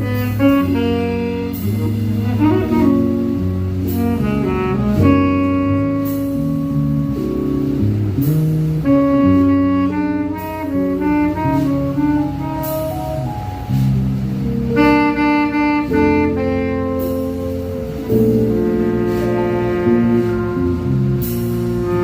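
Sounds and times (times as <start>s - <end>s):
bass: 0.0s - 22.0s
keyboard chords: 0.0s - 22.0s
saxophone notes: 0.0s - 22.0s.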